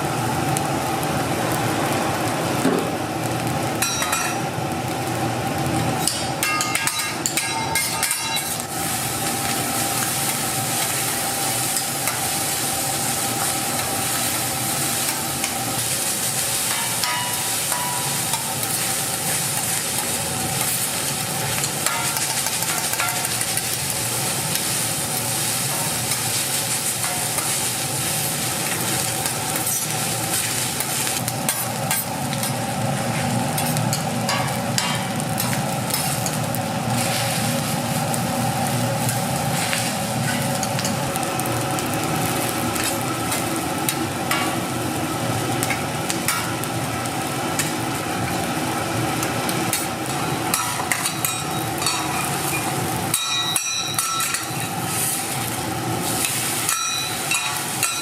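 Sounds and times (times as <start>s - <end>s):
rice sizzling in a pan: 0.0s - 58.0s.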